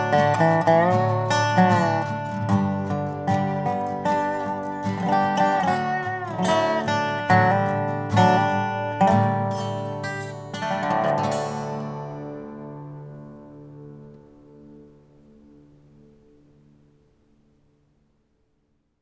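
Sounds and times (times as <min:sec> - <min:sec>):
dobro and acoustic guitar: 0:00.0 - 0:17.6.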